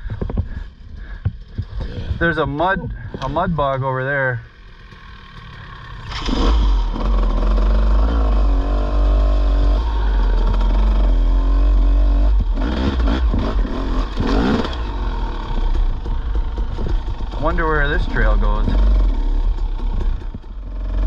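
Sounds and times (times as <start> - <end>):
dirt bike engine revving: 1.4 - 21.0.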